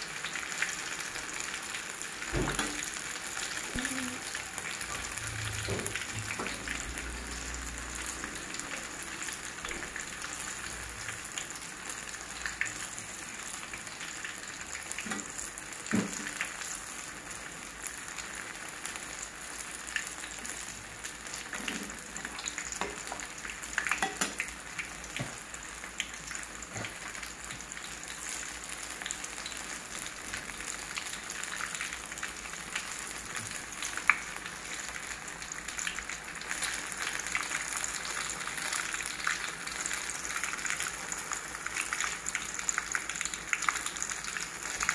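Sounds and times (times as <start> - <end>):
oil sizzling and crackling: 0.0 - 44.9.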